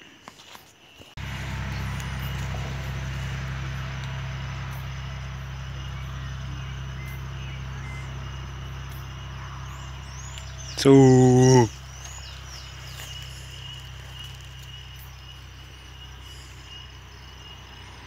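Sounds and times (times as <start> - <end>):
motor droning with hiss: 1.2 - 18.0.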